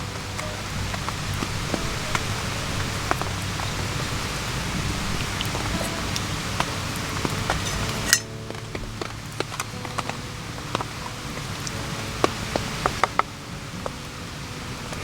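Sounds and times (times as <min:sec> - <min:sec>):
raindrops ticking on surfaces: 0:00.0 - 0:15.0
steady rain: 0:00.0 - 0:15.0.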